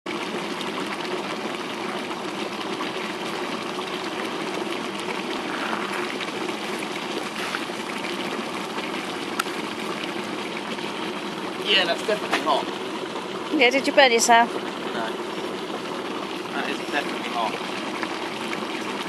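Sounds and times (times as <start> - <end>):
hot pool water bubbling: 0.0 - 19.0.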